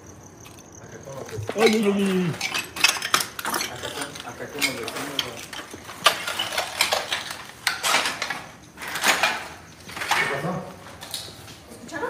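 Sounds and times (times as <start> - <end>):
clinks and knocks: 0.5 - 10.4.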